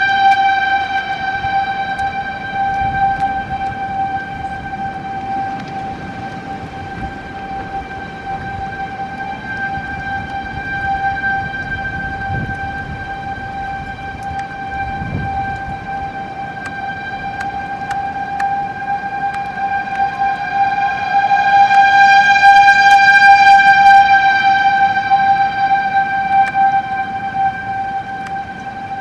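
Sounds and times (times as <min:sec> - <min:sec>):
gusting wind: 0:00.0 - 0:29.0
steady warning siren tone: 0:00.0 - 0:29.0.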